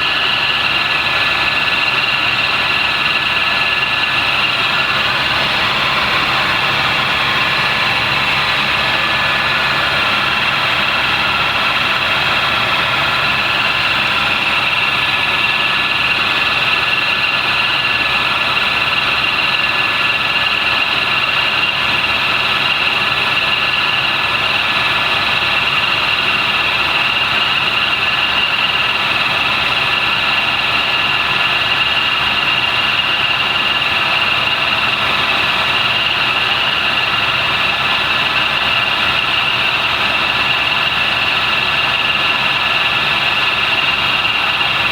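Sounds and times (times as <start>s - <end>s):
helicopter flying: 0.0s - 44.9s.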